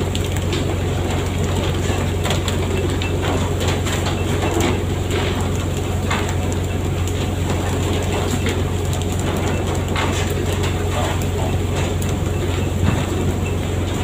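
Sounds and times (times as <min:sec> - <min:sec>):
boat engine humming: 0:00.0 - 0:14.0
knocks and clatter: 0:00.2 - 0:06.6, 0:07.2 - 0:14.0.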